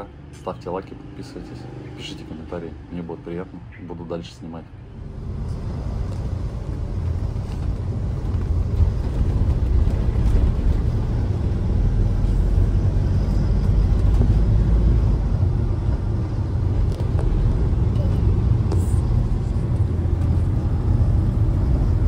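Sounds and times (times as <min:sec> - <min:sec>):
road and engine noise in car: 0:00.0 - 0:22.0.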